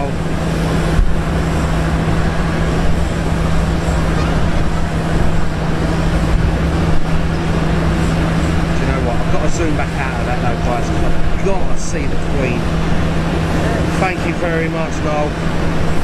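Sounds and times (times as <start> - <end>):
constant rushing: 0.0 - 16.0
steady low hum: 0.0 - 16.0
uneven low rumble: 0.0 - 16.0.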